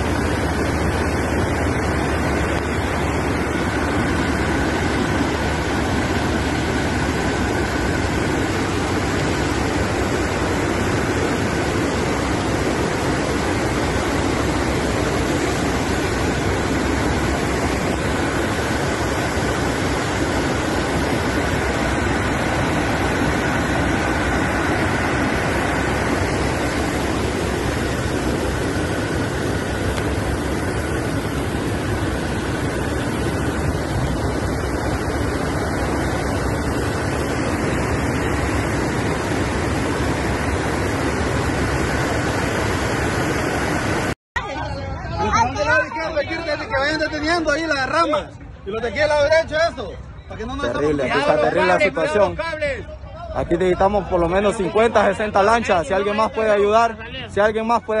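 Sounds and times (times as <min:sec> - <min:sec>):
floodwater and rain rushing: 0:00.0 - 0:58.0.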